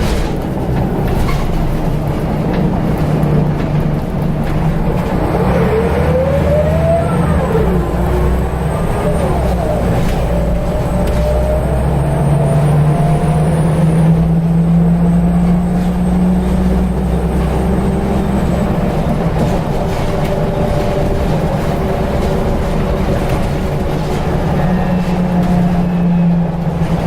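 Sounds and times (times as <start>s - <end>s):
bus diesel engine: 0.0s - 27.0s.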